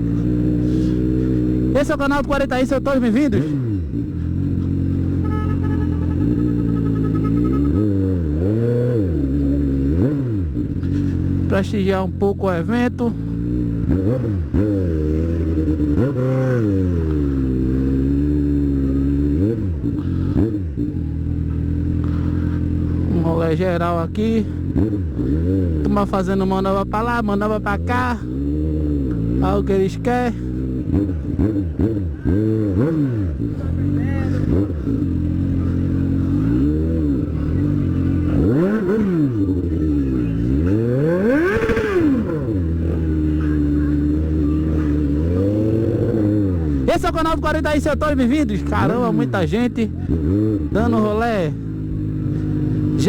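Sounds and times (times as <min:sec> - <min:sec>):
motorcycle engine running: 0:00.0 - 0:53.0
motorcycle throttle blips: 0:00.0 - 0:53.0.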